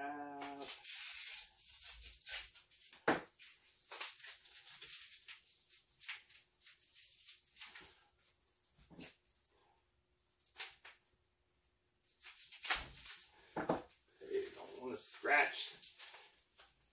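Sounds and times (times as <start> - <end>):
packing material crinkling: 0.3 - 9.7, 12.0 - 16.9.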